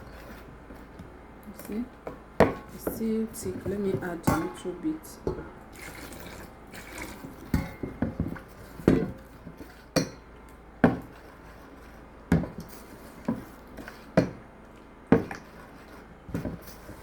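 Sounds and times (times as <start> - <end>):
spoon knocking and scraping a bowl: 0.0 - 4.7, 5.3 - 14.4, 15.1 - 17.0.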